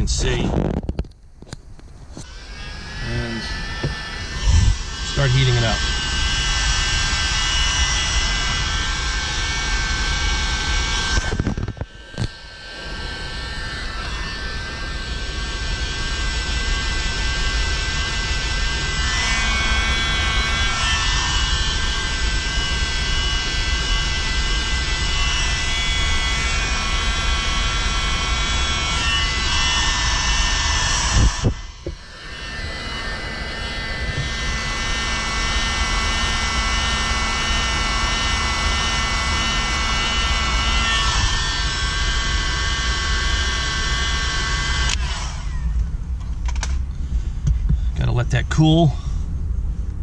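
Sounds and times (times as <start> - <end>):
heat gun blowing: 2.1 - 45.8.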